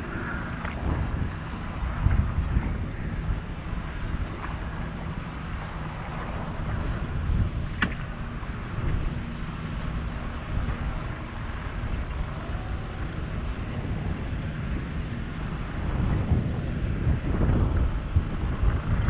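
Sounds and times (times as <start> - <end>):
boat engine humming: 0.0 - 19.0
wind buffeting microphone: 0.0 - 19.0.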